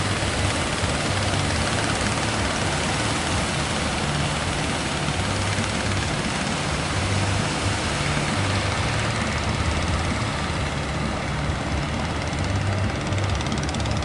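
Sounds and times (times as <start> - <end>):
surf and wind hiss: 0.0 - 13.4
boat engine humming: 0.0 - 14.0.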